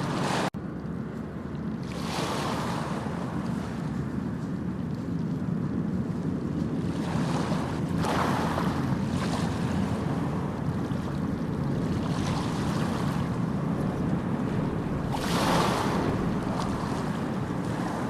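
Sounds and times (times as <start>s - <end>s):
sea waves breaking: 0.0s - 0.6s, 1.3s - 18.0s.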